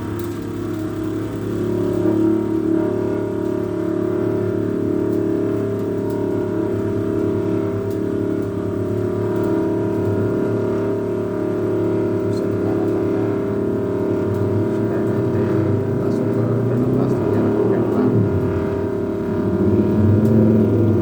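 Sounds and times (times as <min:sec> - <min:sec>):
cotton candy machine humming: 0:00.0 - 0:21.0.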